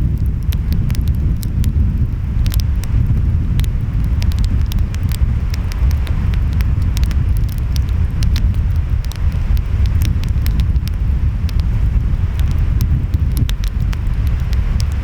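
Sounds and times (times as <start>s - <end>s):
wind: 0.0s - 15.0s
wood fire crackling and popping: 0.0s - 15.0s.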